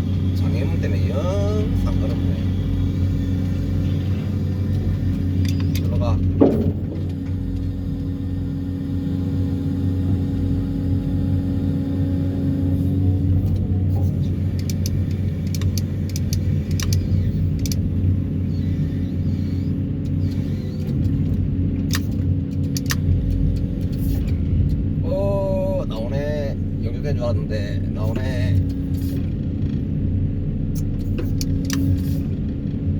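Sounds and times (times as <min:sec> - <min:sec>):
excavator vibro hammer rumbling: 0:00.0 - 0:32.9.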